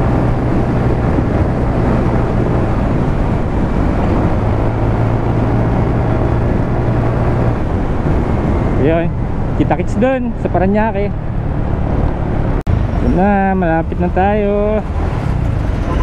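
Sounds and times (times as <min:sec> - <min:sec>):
motorcycle engine hum: 0:00.0 - 0:16.0
wind rushing over microphone: 0:00.0 - 0:16.0.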